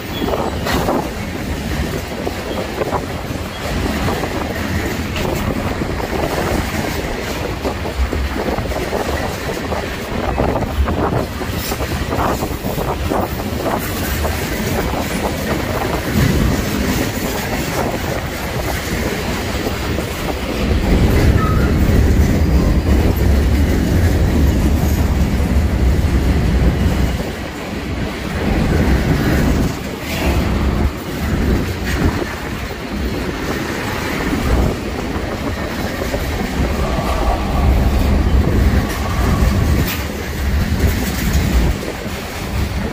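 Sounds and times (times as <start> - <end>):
freight train rumble: 0.0 - 42.9
train wheels clacking over rail joints: 0.0 - 42.9.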